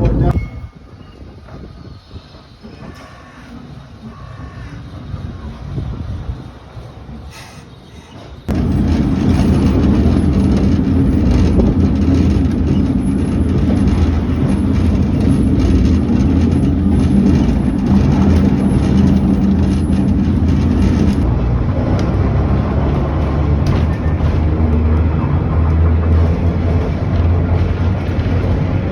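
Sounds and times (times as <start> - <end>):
train rumbling on track: 0.0 - 28.9.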